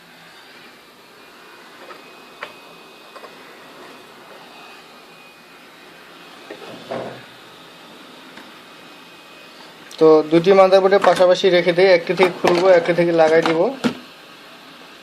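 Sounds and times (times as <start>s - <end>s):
hot-air tool hissing with whine: 0.0s - 15.0s.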